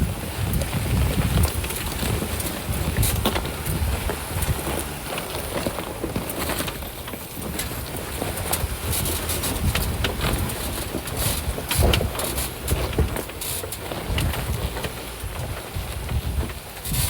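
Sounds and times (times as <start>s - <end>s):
low engine rumble: 0.0s - 17.0s
vehicle jolting over rocks: 0.0s - 17.0s.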